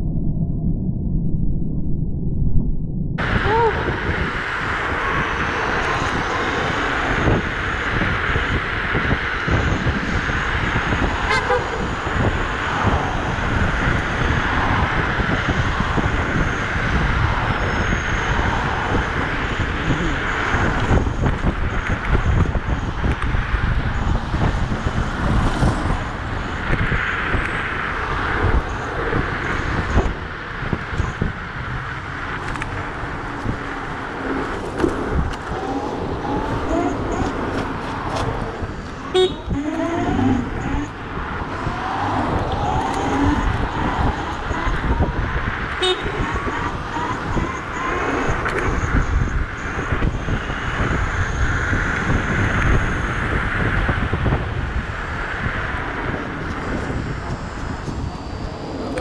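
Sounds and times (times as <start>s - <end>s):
wind gusting on microphone: 0.0s - 59.0s
city traffic: 3.2s - 59.0s.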